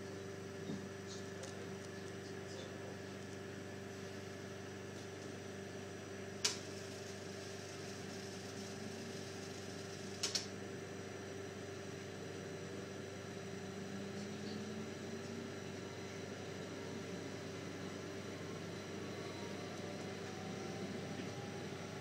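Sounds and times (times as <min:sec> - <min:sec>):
train carriage hum: 0:00.0 - 0:22.0.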